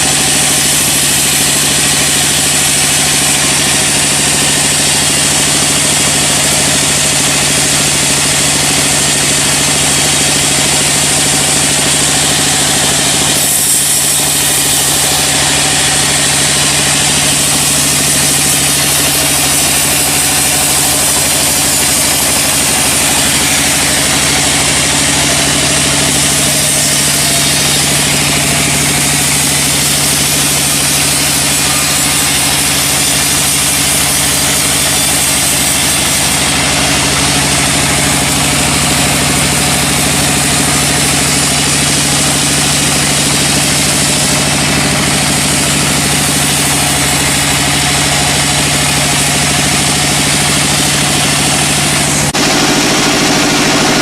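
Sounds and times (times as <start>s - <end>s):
motor humming: 0.0s - 54.0s.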